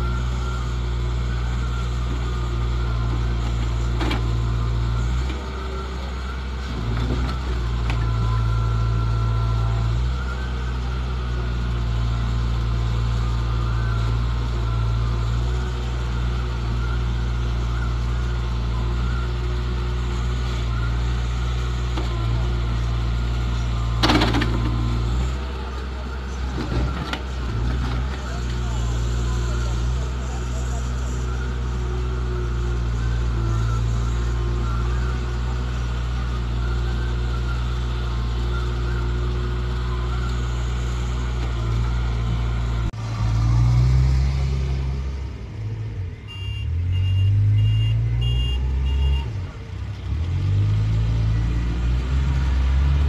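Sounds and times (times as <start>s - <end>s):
backhoe diesel engine under load: 0.0s - 53.0s.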